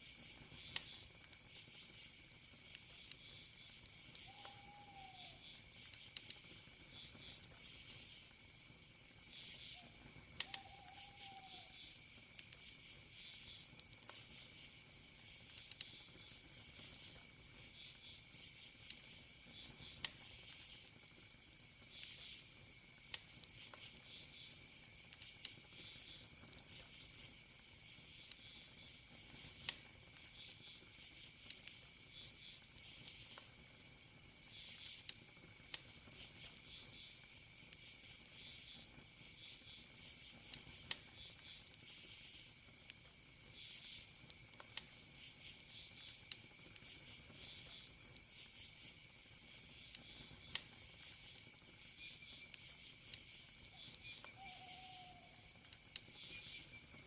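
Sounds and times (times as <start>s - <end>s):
campfire crackling and popping: 0.0s - 57.0s
crickets chirping: 0.0s - 57.0s.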